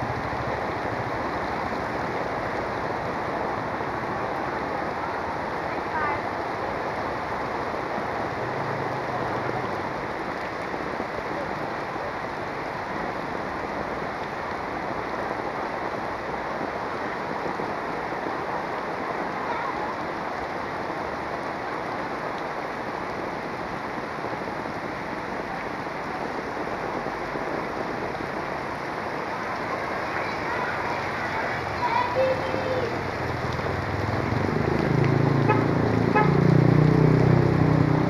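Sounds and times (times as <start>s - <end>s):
heavy rain on street: 0.0s - 38.0s.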